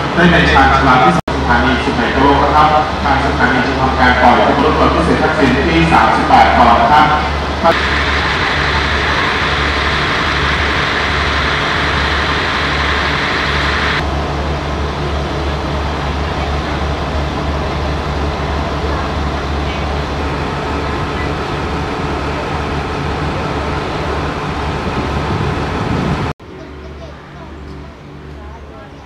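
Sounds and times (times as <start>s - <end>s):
faint platform chatter: 0.0s - 11.0s, 14.0s - 29.0s
diesel train idling: 0.0s - 29.0s.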